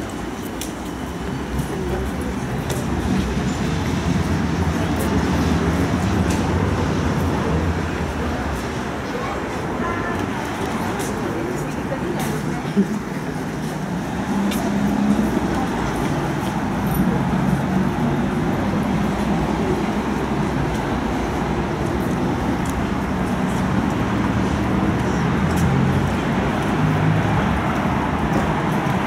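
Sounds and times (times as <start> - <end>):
steady road traffic hum: 0.0 - 29.0.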